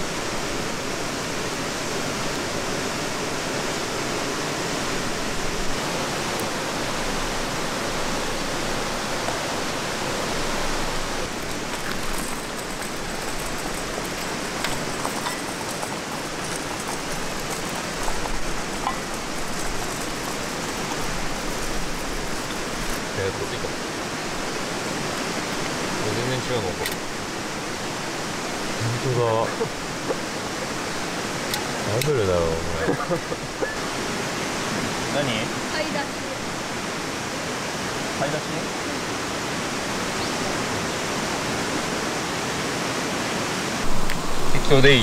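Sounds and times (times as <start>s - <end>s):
flowing water rushing: 0.0s - 45.0s.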